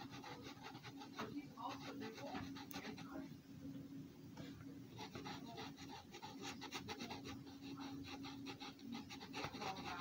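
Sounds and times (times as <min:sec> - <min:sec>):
marker scratching on paper: 0:00.0 - 0:03.2, 0:05.0 - 0:10.0.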